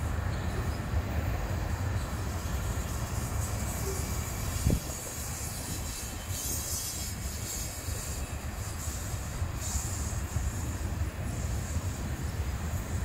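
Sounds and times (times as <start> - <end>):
train wheels rumbling on rail: 0.0 - 13.0
high hiss: 0.1 - 13.0.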